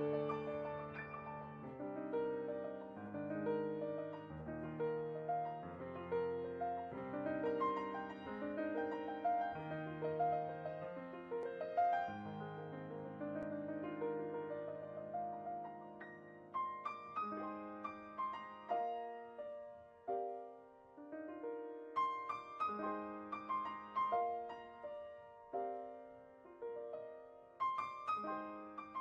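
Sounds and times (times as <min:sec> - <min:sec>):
slow solo piano: 0:00.0 - 0:29.0.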